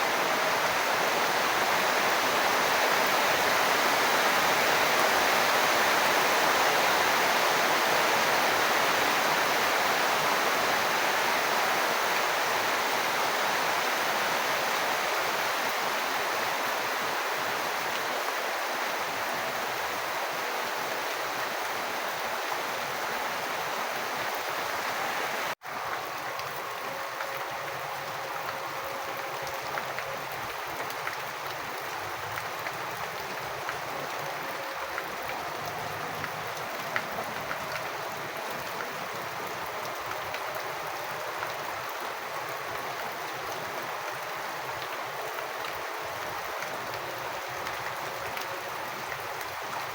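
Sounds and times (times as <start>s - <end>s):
rain and running water: 0.0s - 49.9s.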